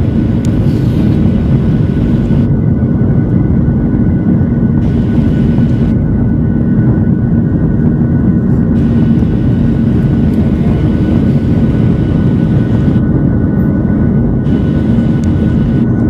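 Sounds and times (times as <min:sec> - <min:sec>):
jet engine rumble: 0:00.0 - 0:16.0
thin steady engine whine: 0:00.0 - 0:16.0.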